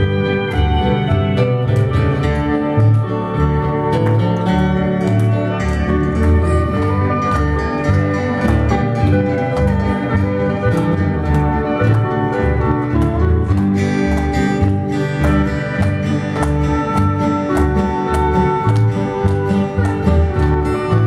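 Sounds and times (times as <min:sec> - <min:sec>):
bass line: 0:00.0 - 0:21.0
country band playing: 0:00.0 - 0:21.0
strummed guitar: 0:00.0 - 0:21.0.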